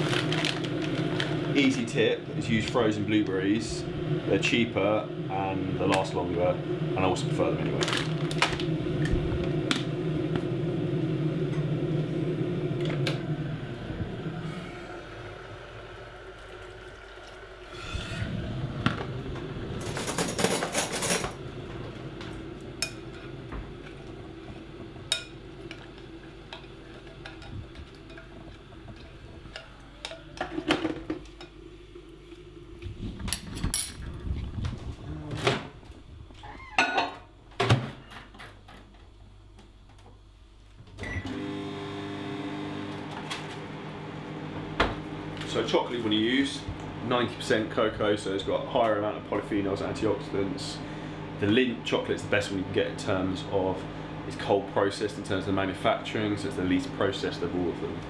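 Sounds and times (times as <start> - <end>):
steady hum: 0.0 - 38.0, 39.0 - 58.0
microwave oven humming: 0.0 - 58.0.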